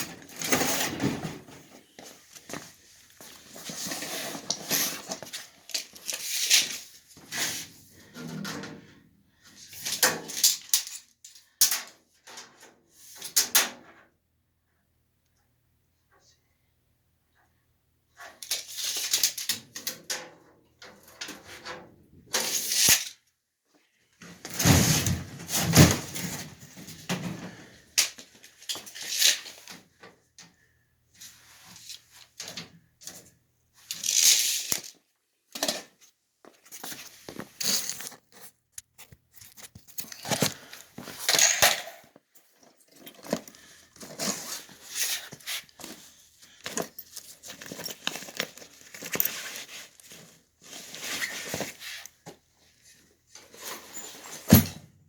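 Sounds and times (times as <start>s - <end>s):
rustling and scraping handling noise: 0.0s - 11.6s, 20.8s - 54.8s.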